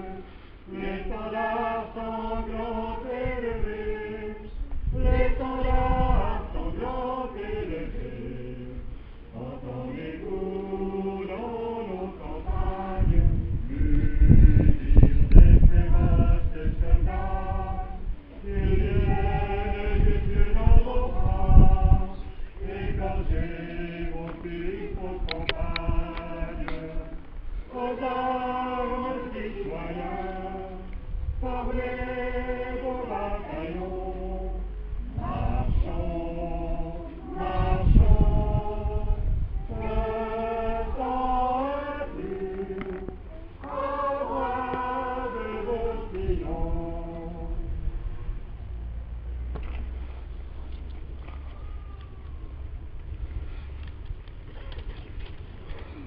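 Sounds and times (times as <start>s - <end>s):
choir singing: 0.0s - 47.8s
wind rumbling on microphone: 0.0s - 56.0s.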